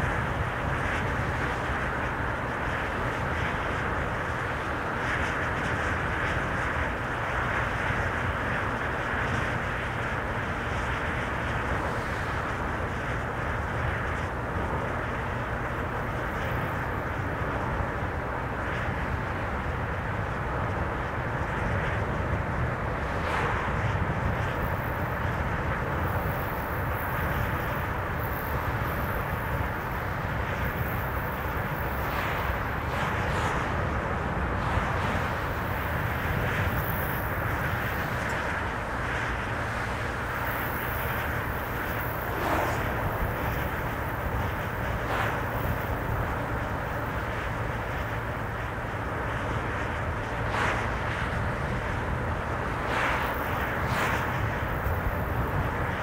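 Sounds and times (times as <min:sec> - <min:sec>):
low engine hum: 0:00.0 - 0:56.0
tyre and road noise: 0:00.0 - 0:56.0.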